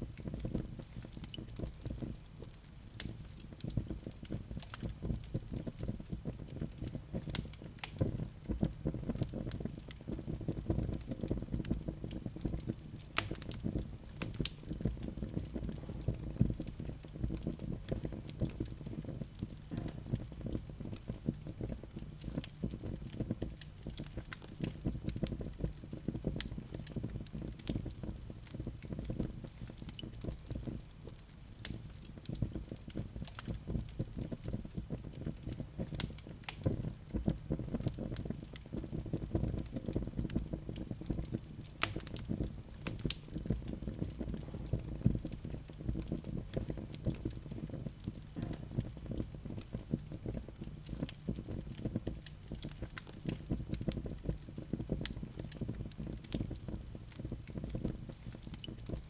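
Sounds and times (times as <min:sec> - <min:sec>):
fire crackling: 0:00.0 - 0:59.0
low rumble of flames: 0:00.0 - 0:59.0.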